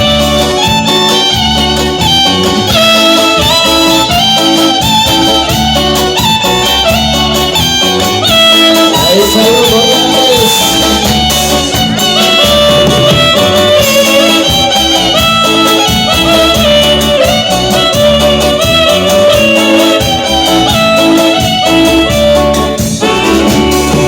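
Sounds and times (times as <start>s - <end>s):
band playing dance tune: 0.0s - 24.0s.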